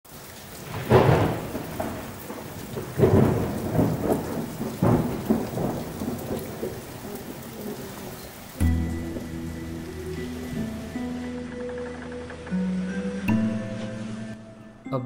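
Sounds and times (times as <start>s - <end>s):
steady rain: 0.0s - 14.7s
thunder rumbles: 0.4s - 12.8s.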